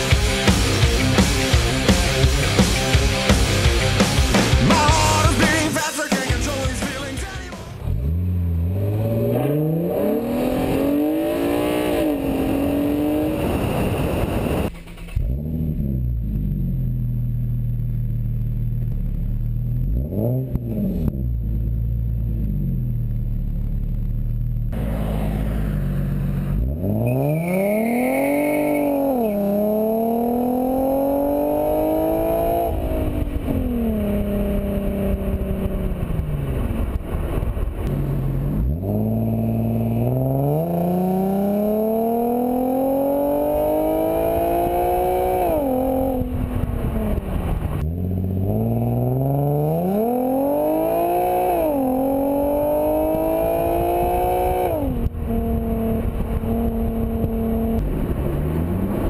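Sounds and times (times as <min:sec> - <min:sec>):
car exhaust accelerating: 0:00.0 - 0:59.0.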